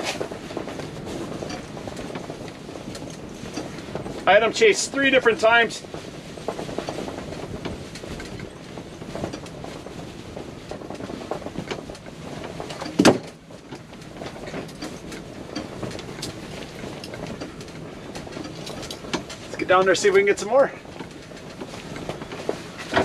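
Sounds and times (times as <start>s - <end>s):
wind rattling fabric walls: 0.0s - 23.0s.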